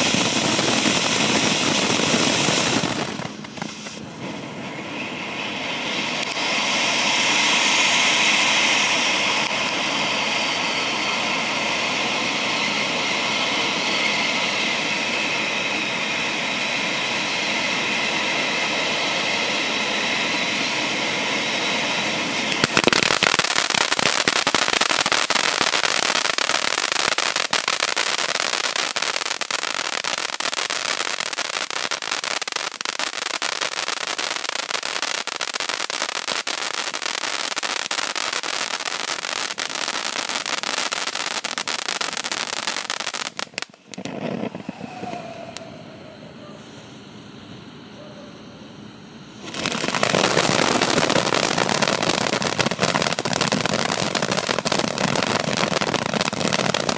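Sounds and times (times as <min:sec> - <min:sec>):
firework crackling: 0:00.0 - 0:45.9, 0:49.4 - 0:56.9
firework fountain hissing: 0:00.0 - 0:47.8, 0:49.3 - 0:56.9.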